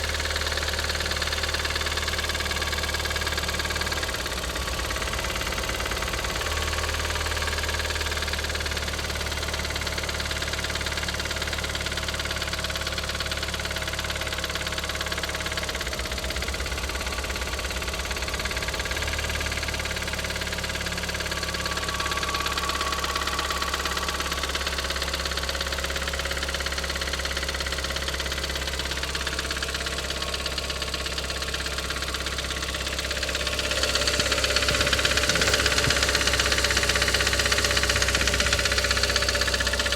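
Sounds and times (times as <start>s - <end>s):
car engine idling with clatter: 0.0s - 39.9s.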